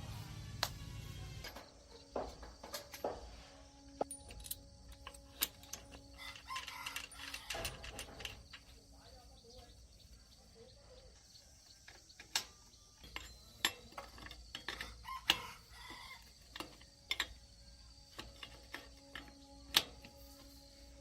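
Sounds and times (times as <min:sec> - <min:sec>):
hand tools clicking and knocking: 0:01.3 - 0:09.7, 0:11.2 - 0:21.0.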